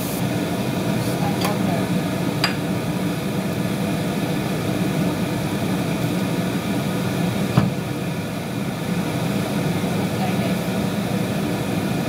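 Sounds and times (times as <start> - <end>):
extractor fan running: 0.0 - 12.0.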